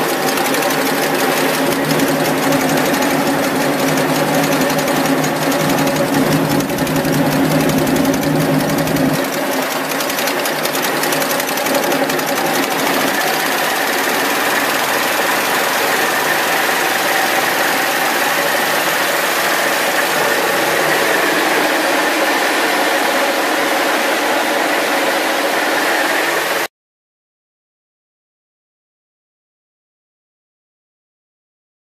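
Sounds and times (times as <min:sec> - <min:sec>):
engine running with fast clatter: 0:00.0 - 0:26.7.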